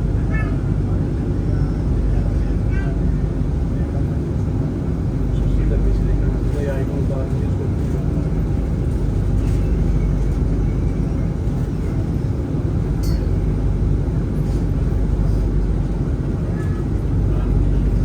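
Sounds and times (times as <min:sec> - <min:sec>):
tram low rumble: 0:00.0 - 0:18.0.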